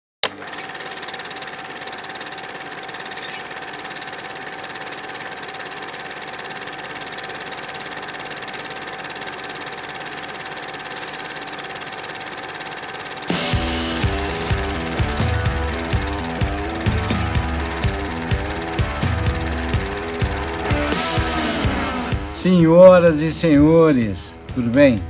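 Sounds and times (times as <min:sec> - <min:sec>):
mechanical clatter: 0:00.2 - 0:21.6
whirring hum: 0:00.2 - 0:22.5.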